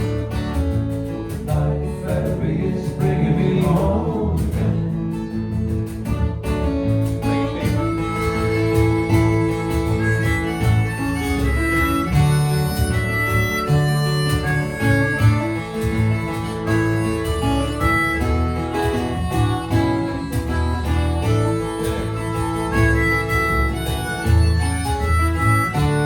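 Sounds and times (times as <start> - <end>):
acoustic guitar accompaniment: 0.0 - 26.0
sustained lead melody: 5.1 - 26.0.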